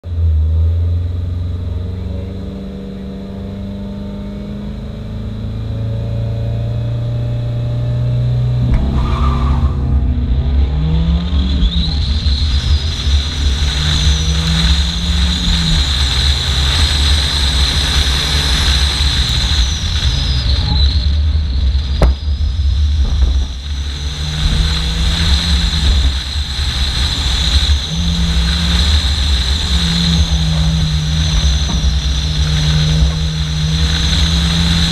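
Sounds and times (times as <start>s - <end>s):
car engine revving through gears: 0.0s - 21.0s, 23.1s - 34.9s.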